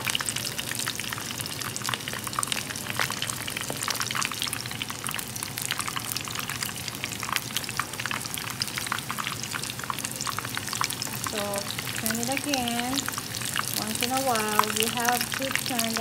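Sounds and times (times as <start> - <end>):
spring rolls sizzling in oil: 0.0 - 16.0.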